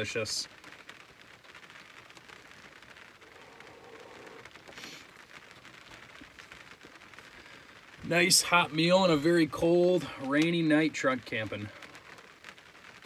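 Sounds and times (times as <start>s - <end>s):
heavy rain pattering on a roof: 0.0s - 13.0s.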